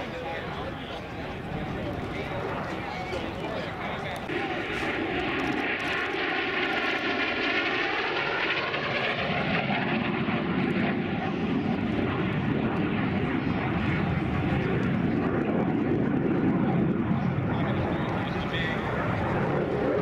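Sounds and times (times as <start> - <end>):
jet engine roar flying past: 0.0 - 20.0.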